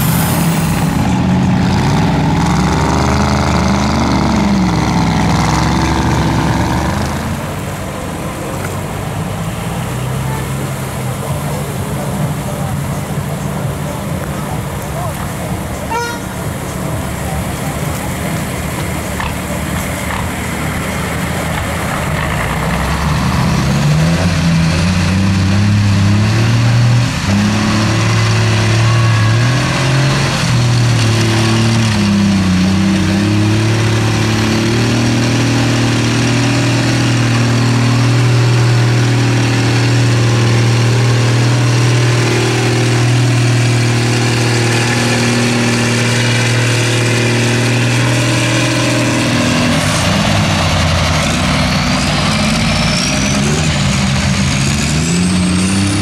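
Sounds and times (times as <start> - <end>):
truck engine revving in mud: 0.0 - 56.0.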